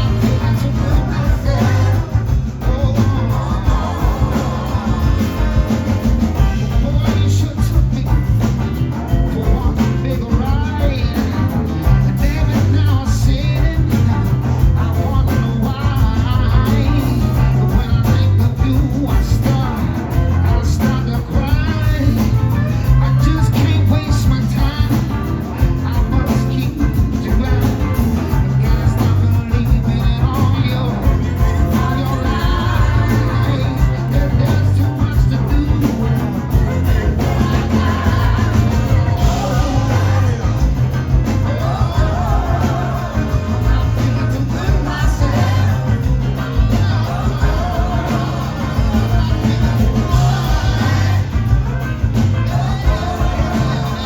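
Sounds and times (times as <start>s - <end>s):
bass line: 0.0s - 54.0s
electric guitar: 0.0s - 54.0s
live rock band playing: 0.0s - 54.0s
person singing: 0.0s - 54.0s.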